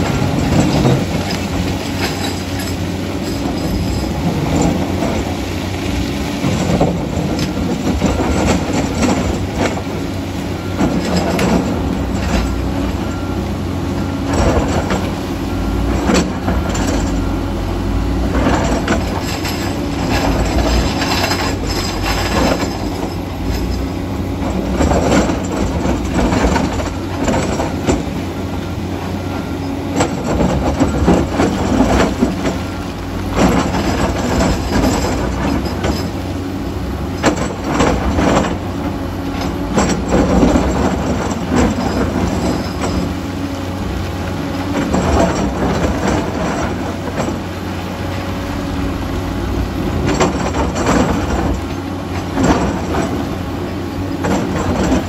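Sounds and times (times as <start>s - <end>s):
diesel engines under load: 0.0s - 55.0s
excavator bucket scraping rock: 0.0s - 55.0s
steel tracks clattering: 0.0s - 55.0s.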